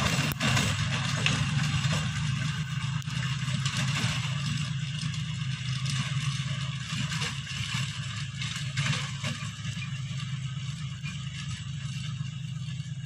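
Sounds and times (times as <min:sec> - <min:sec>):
rotary tiller churning soil: 0:00.0 - 0:13.0
tractor engine running: 0:00.0 - 0:13.0.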